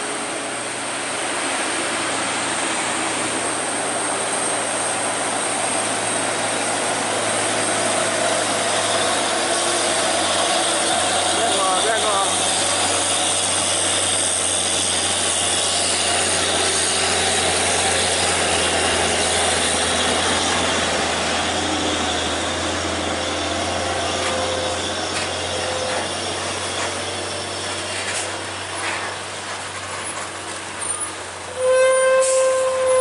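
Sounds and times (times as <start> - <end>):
truck diesel engine labouring uphill: 0.0 - 31.5.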